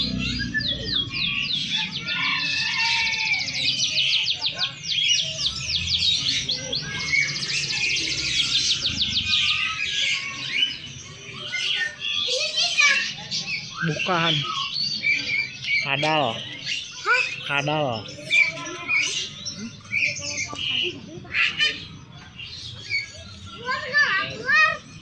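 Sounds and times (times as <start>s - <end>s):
chorus of songbirds singing: 0.0s - 25.0s.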